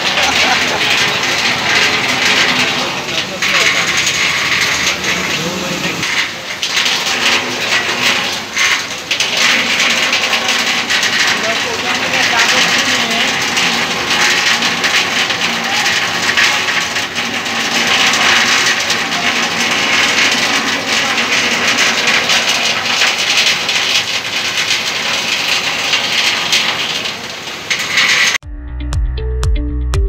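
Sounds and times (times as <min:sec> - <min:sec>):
floodwater and rain rushing: 0:00.0 - 0:28.4.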